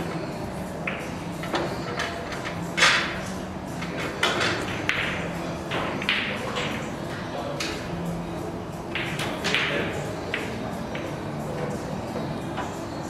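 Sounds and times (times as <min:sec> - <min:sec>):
pool balls clacking: 0:00.8 - 0:08.0, 0:08.8 - 0:13.0.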